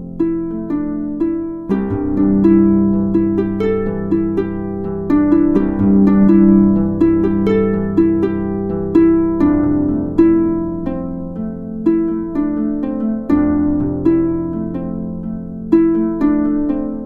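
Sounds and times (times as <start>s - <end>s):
plucked string melody: 0.0s - 17.0s.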